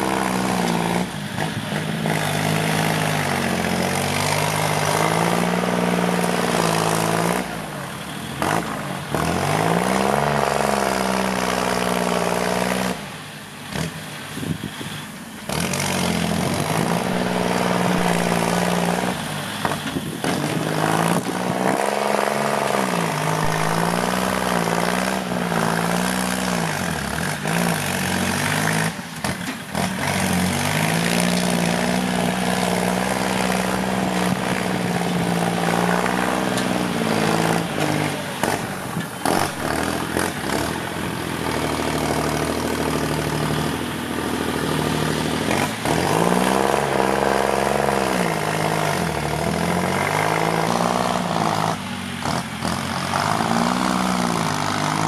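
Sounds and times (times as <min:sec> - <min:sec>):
tractor diesel engine working hard: 0:00.0 - 0:55.0.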